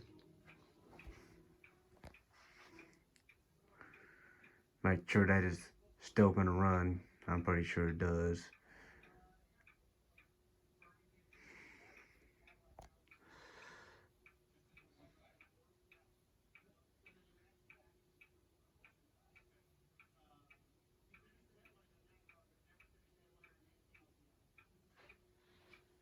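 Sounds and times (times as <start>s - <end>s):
light regular ticking: 0.0s - 26.0s.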